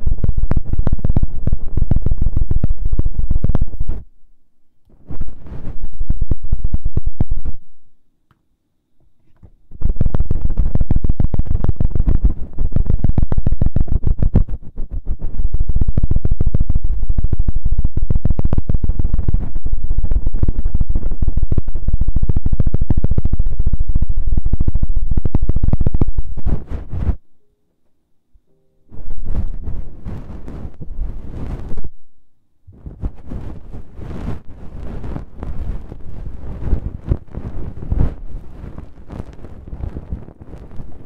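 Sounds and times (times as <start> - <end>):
rubbing and scratching on microphone: 0.0 - 4.1, 4.9 - 7.7, 9.2 - 27.2, 28.9 - 31.9, 32.7 - 41.0.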